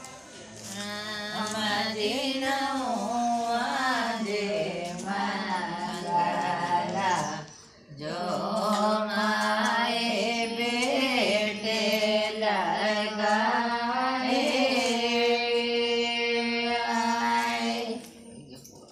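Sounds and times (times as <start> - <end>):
women singing unaccompanied: 0.0 - 18.2.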